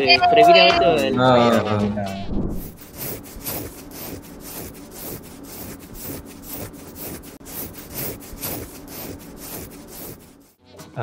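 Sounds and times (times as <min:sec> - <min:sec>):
rhythmic rasping strokes: 0:00.0 - 0:10.6.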